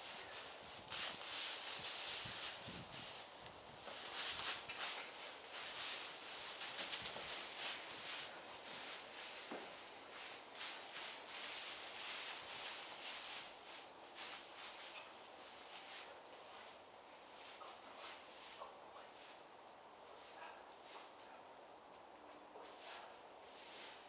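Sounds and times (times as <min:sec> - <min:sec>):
straw bedding rustling underfoot: 0:00.0 - 0:19.4, 0:22.6 - 0:24.0.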